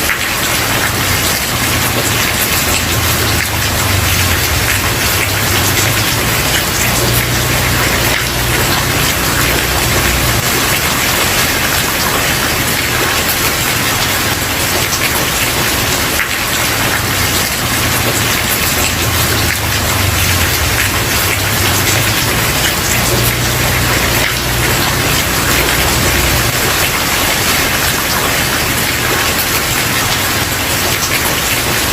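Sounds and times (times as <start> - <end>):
rain on a wooden porch: 0.0 - 31.9.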